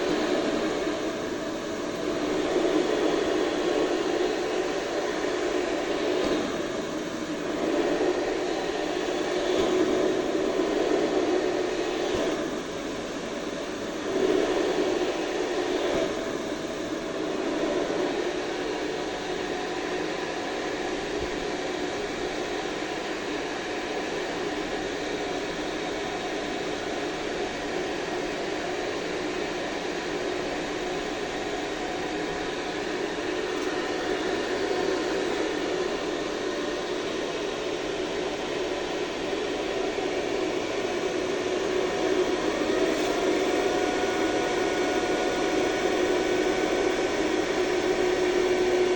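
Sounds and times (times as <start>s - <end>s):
ventilation fan running: 0.0s - 48.9s.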